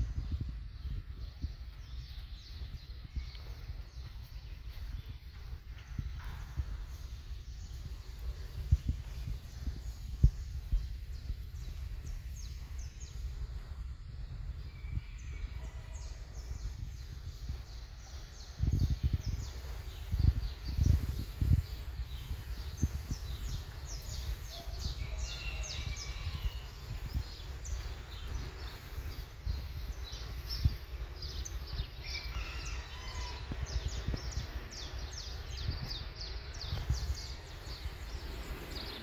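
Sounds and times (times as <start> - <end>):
small birds chirping: 0.0 - 39.0
wind rumble on microphone: 0.0 - 39.0.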